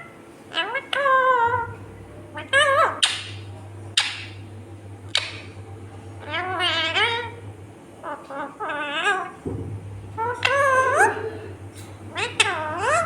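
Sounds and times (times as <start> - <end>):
parakeet calling: 0.0 - 4.4, 5.0 - 5.6, 6.2 - 13.0
steady low hum: 0.0 - 13.0.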